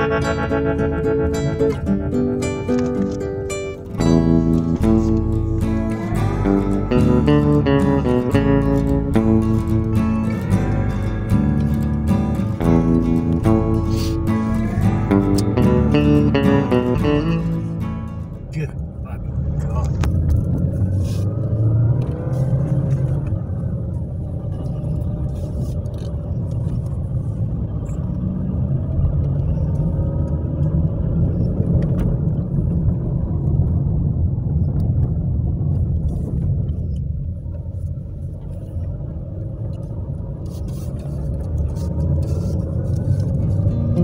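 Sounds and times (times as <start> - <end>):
car engine and tyre rumble: 0.0 - 44.0.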